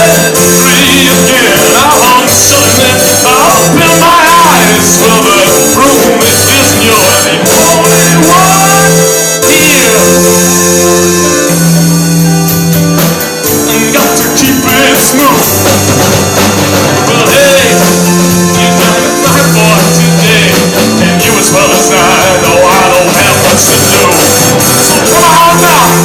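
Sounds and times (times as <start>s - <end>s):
drum hits: 0.0s - 26.0s
rock band playing: 0.0s - 26.0s
sustained bass notes: 0.0s - 26.0s.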